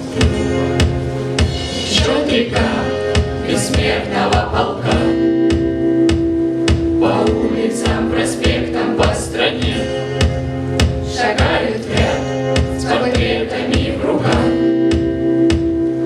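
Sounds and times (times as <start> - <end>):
group of voices singing: 0.0 - 5.8, 6.9 - 15.2.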